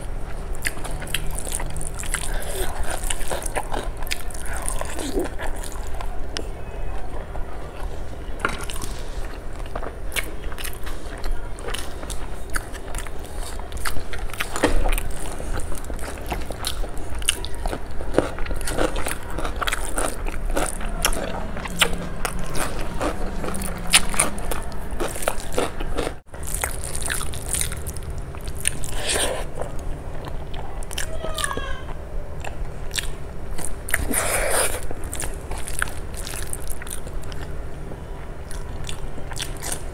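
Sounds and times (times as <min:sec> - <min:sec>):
chewing and lip smacking: 0:00.0 - 0:37.6, 0:38.2 - 0:39.9.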